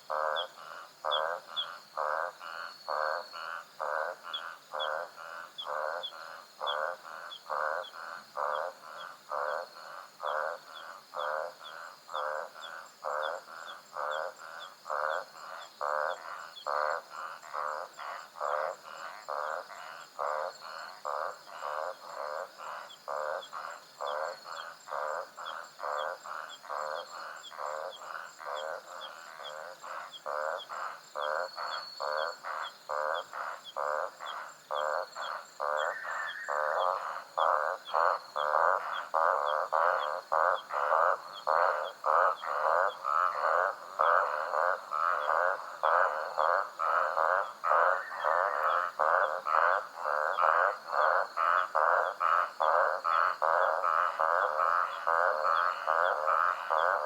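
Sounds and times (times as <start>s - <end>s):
crickets and insects trilling: 0.0s - 57.0s
frog croaking: 0.0s - 57.0s.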